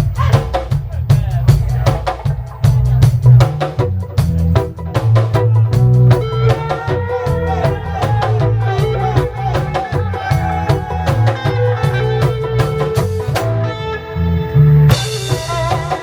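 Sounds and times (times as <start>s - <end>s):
reggae band playing: 0.0s - 16.0s.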